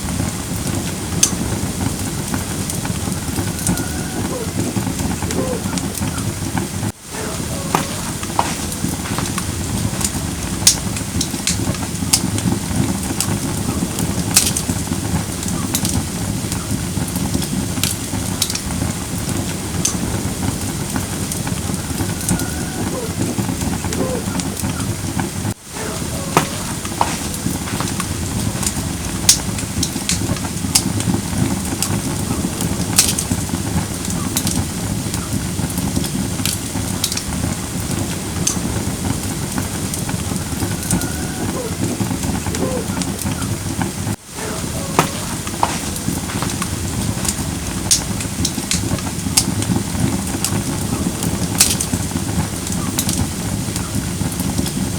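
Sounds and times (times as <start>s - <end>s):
fire flames rumbling: 0.0s - 54.9s
firewood crackling and popping: 0.0s - 54.9s.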